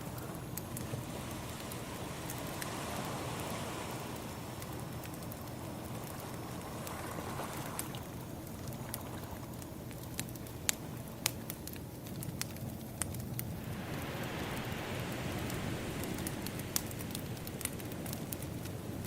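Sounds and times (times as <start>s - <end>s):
ocean waves washing: 0.0s - 11.1s, 13.4s - 19.0s
wood fire crackling: 0.0s - 19.0s.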